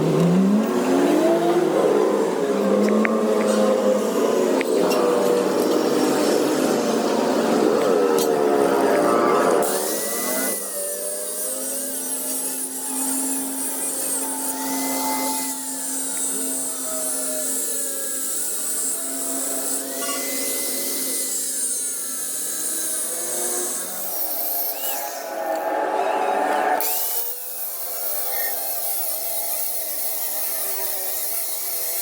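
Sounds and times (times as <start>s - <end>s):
power tool on metal: 2.8s - 25.7s, 26.8s - 32.0s.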